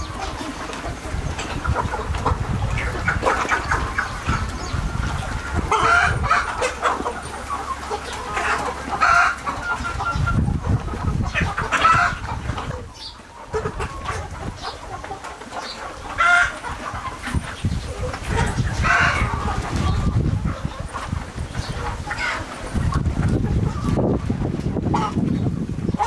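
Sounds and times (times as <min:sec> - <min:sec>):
hens and roosters clucking: 0:00.0 - 0:26.0.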